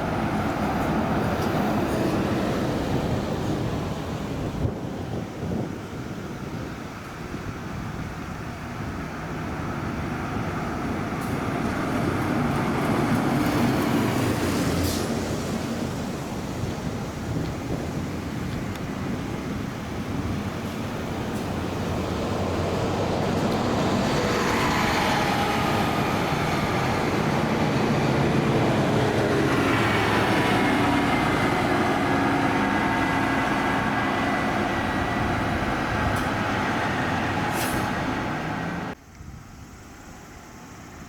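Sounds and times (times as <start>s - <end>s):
diesel buses driving past: 0.0s - 39.1s.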